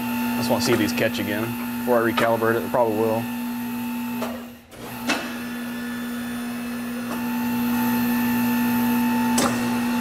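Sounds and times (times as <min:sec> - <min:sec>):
electric motor hum: 0:00.0 - 0:10.0.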